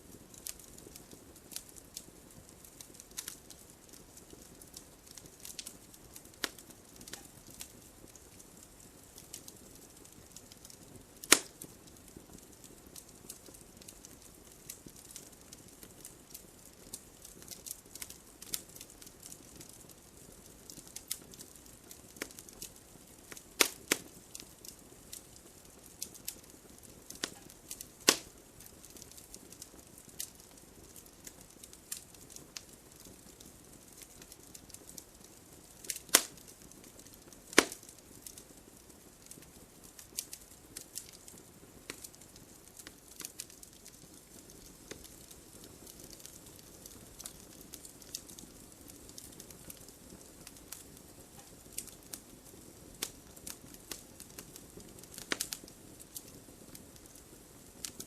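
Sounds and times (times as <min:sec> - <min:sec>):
fire crackling: 0:00.0 - 0:58.0
loud fire pops: 0:00.2 - 0:57.2.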